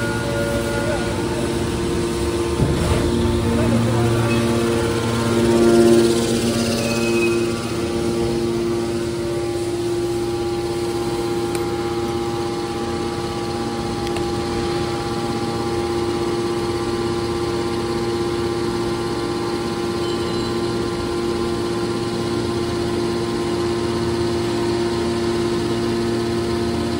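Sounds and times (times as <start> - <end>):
machine motor and pump humming: 0.0 - 26.9.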